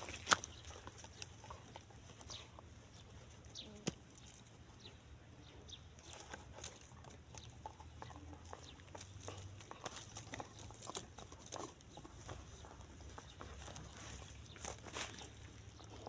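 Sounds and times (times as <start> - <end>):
twigs crackling under dog: 0.0 - 4.6, 5.9 - 16.0
birds chirping: 0.0 - 16.0.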